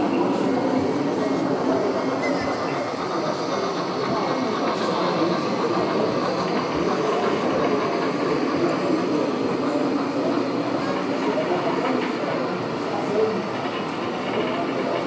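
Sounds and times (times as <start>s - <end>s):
murmur of many voices: 0.0s - 15.0s.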